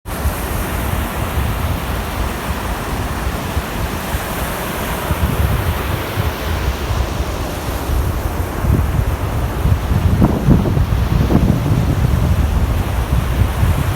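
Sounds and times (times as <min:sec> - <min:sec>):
sea waves washing in: 0:00.1 - 0:13.9
wind buffeting microphone: 0:00.1 - 0:13.9.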